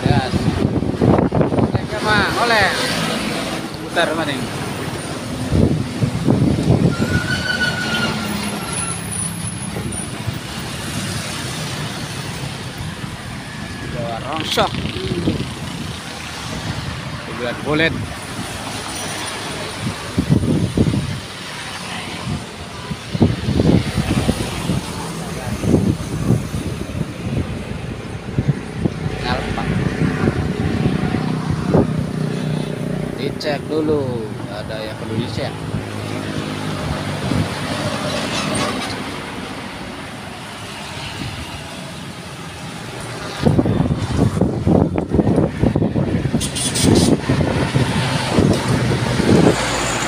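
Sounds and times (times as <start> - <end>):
road traffic passing: 0.0 - 50.0.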